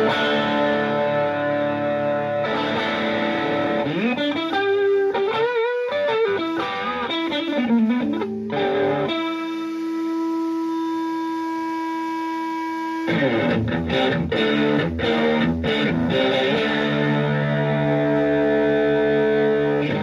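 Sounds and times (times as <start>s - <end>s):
electric guitar chords and lead: 0.0s - 20.0s.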